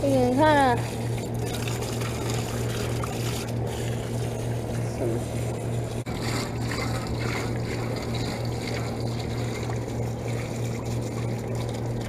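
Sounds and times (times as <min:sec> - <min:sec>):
hose water spraying and trickling: 0:00.0 - 0:12.0
steady low hum: 0:00.0 - 0:12.0.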